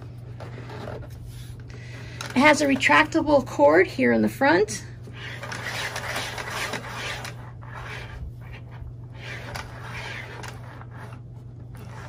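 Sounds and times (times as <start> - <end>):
power cord scraping and rubbing: 0.0 - 3.1, 5.1 - 12.0
low steady hum: 0.0 - 12.0.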